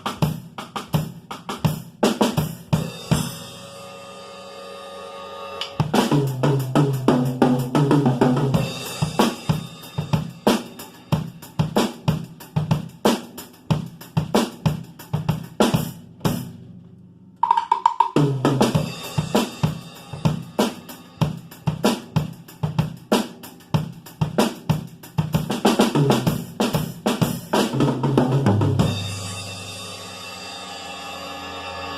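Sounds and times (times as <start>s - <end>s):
drum kit playing: 0.0s - 16.8s, 17.4s - 31.9s.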